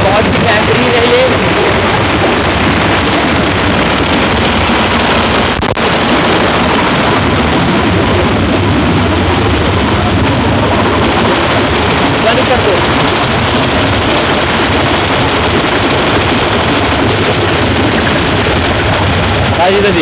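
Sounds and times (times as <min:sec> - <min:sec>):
concrete mixer engine running: 0:00.0 - 0:20.0.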